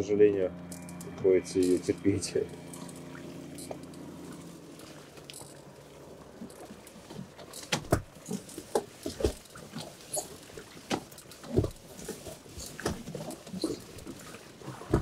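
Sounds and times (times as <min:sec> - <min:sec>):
small waves slapping hull: 0:02.8 - 0:15.0.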